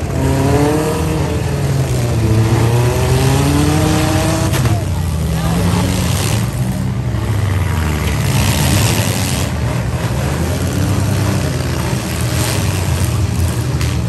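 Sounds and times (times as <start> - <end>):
car engines running and revving: 0.0 - 14.0.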